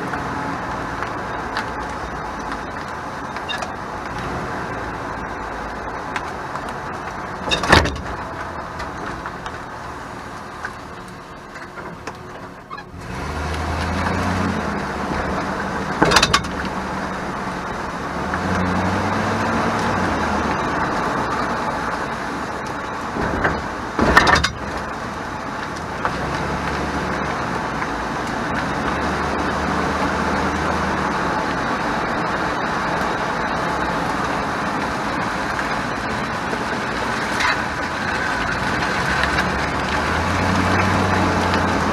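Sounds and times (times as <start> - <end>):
pickup truck engine and road noise: 0.0 - 41.9.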